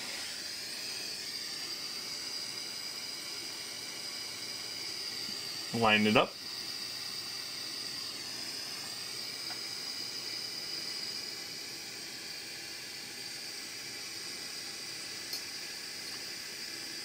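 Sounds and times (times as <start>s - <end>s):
thin high whine: 0.0s - 17.0s.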